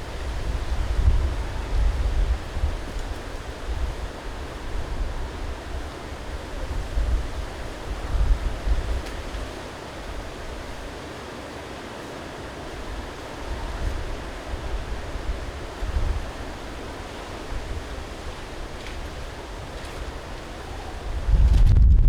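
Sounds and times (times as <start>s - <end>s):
strong gusting wind on microphone: 0.0s - 11.0s, 12.7s - 22.0s.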